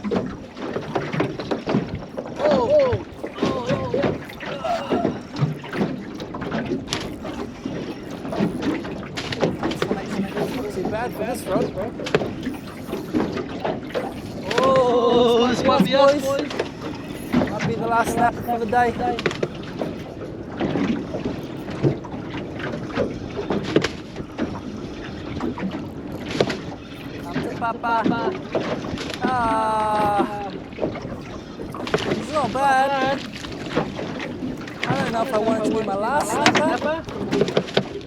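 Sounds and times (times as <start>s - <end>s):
clicks and knocks on a boat: 0.0s - 38.0s
water noise: 0.0s - 38.0s
wind: 0.0s - 38.0s.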